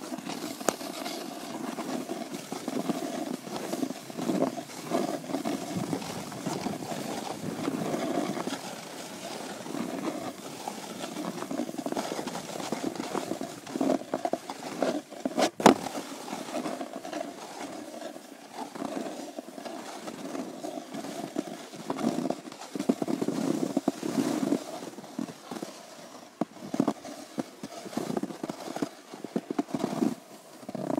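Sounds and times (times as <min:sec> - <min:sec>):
skis scraping on snow: 0:00.0 - 0:30.9.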